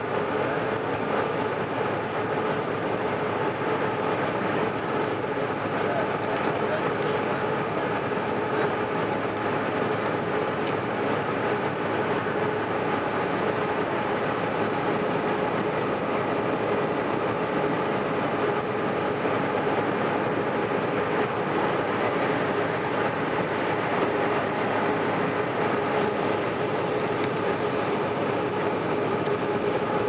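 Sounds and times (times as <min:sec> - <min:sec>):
airliner engine drone: 0:00.0 - 0:30.0
rushing airflow: 0:00.0 - 0:30.0.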